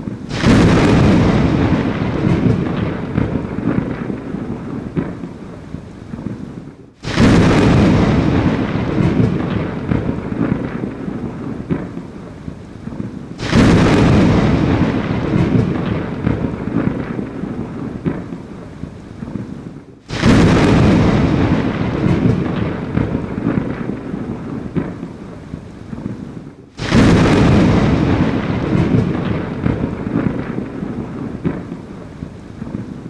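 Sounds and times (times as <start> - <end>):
rumbling thunder: 0.0 - 6.4, 7.0 - 33.0
heavy rain: 0.0 - 33.0.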